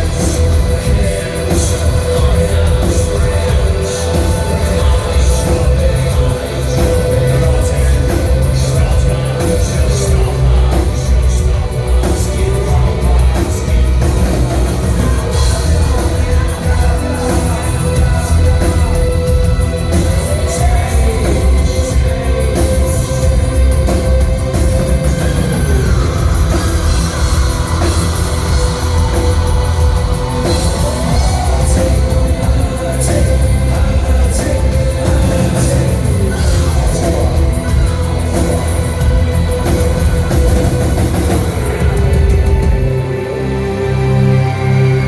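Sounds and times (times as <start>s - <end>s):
rock band playing live: 0.0s - 45.0s.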